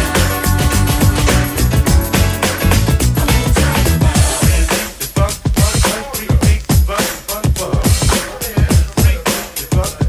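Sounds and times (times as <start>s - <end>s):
dance music with synths: 0.0s - 10.0s.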